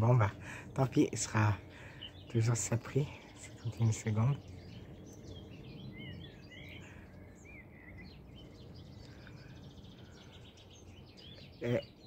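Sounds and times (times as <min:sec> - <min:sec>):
distant tractor rumble: 0:00.0 - 0:12.0
small birds chirping: 0:00.0 - 0:12.0.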